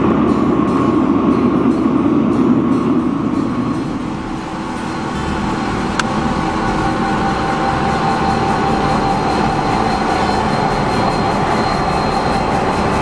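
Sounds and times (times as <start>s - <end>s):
diesel locomotive engines rumbling: 0.0s - 13.0s
thin high whine: 0.0s - 13.0s.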